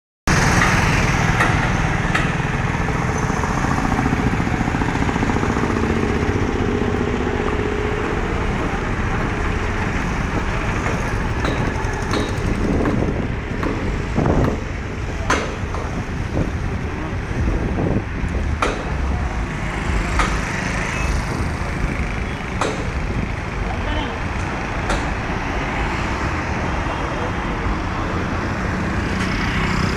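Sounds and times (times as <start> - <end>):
street traffic roar: 0.3 - 29.9.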